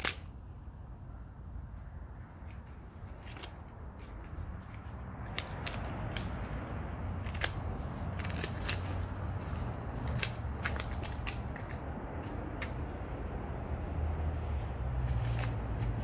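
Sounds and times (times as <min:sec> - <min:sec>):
dry leaves and twigs crackling: 0:02.4 - 0:16.0.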